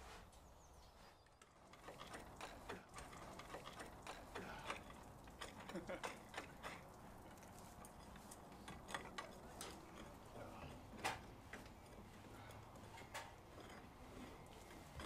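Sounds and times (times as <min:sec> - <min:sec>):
hand tools tapping on steel: 0:01.3 - 0:15.0.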